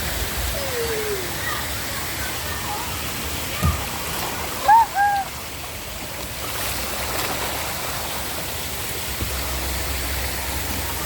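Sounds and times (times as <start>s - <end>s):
splashing water rushing: 0.0s - 11.0s.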